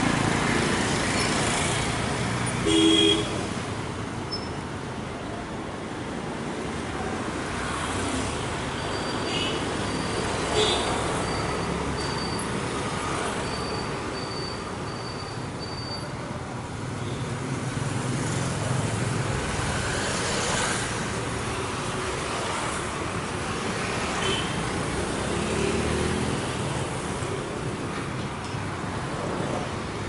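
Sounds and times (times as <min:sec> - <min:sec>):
vehicles passing on road: 0:00.0 - 0:30.0.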